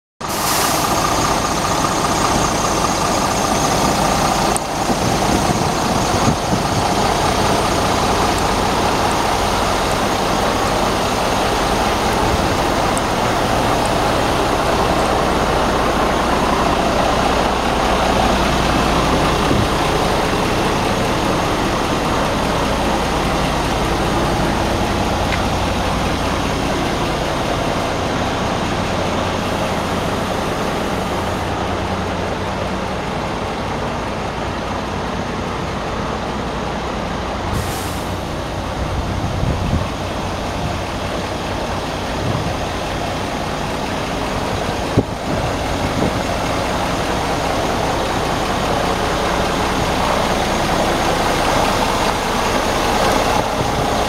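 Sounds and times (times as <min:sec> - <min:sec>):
diesel engine idling: 0:00.2 - 0:54.0.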